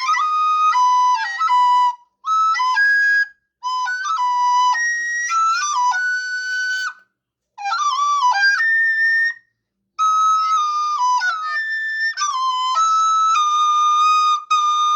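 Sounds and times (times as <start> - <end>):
flute-like slow melody: 0.0 - 7.0, 7.6 - 14.9.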